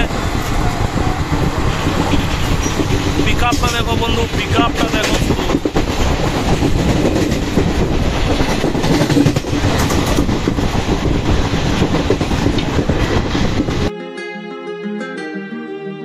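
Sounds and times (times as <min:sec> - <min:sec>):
train rumble from inside coach: 0:00.0 - 0:13.9
wheels clattering over rail joints: 0:00.4 - 0:13.9.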